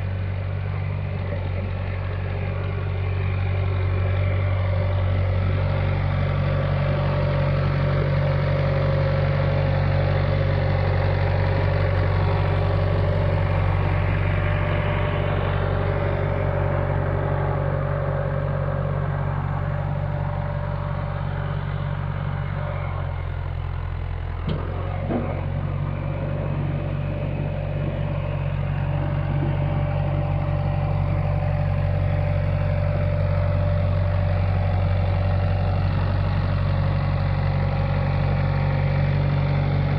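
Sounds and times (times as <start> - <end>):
backhoe engine idling: 0.0 - 39.9.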